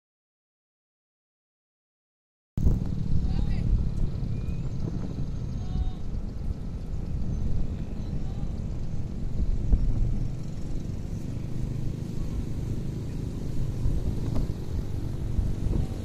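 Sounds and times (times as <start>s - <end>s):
car engine and tyre rumble: 2.6s - 16.0s.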